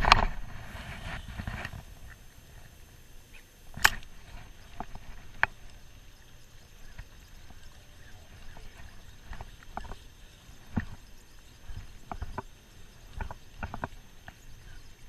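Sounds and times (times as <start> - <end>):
faint steady background: 0.0 - 15.0.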